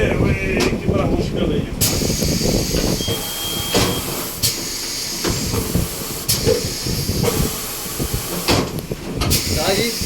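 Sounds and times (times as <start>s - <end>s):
compressed air hissing: 1.8s - 10.0s.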